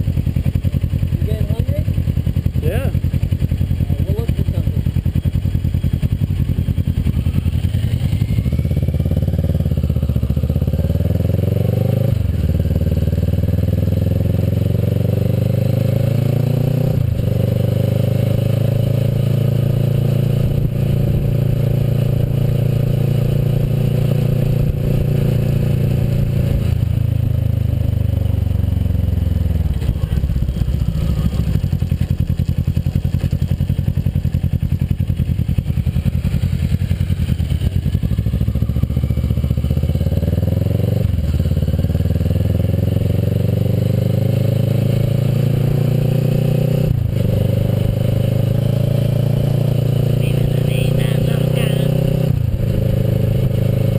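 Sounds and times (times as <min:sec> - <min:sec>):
motorcycle engine shifting gears: 0:00.0 - 0:53.9.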